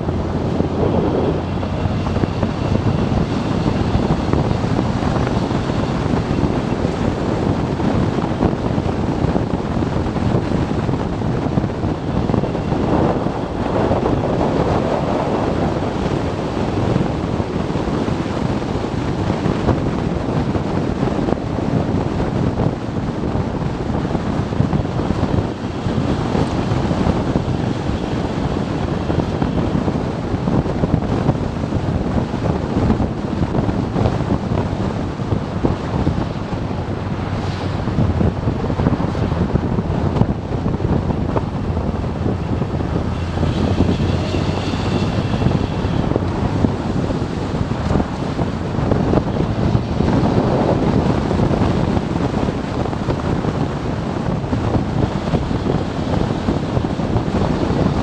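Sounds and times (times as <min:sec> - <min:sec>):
motorcycle engine and road noise: 0:00.0 - 0:58.0
wind rushing over microphone: 0:00.0 - 0:58.0.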